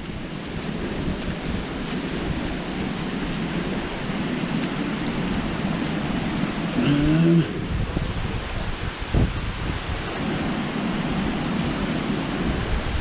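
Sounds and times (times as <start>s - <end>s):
river water rushing: 0.0s - 13.0s
wind buffeting microphone: 0.0s - 13.0s.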